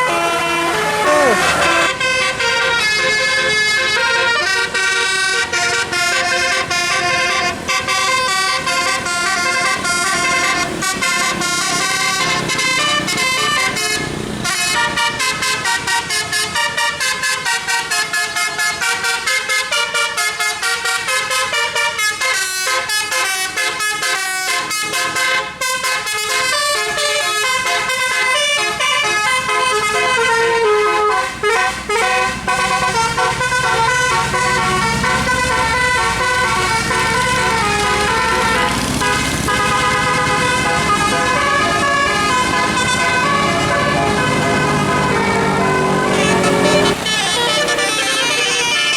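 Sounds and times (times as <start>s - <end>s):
musical air horn melody: 0.0s - 48.9s.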